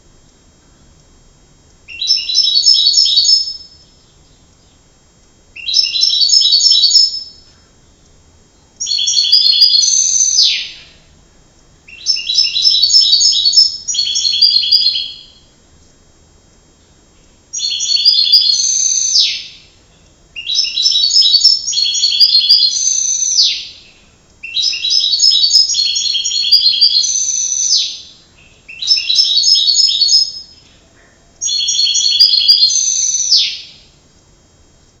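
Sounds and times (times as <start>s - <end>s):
canary singing in trills: 1.9s - 4.9s, 5.5s - 7.6s, 8.6s - 11.1s, 11.8s - 15.5s, 17.2s - 34.0s.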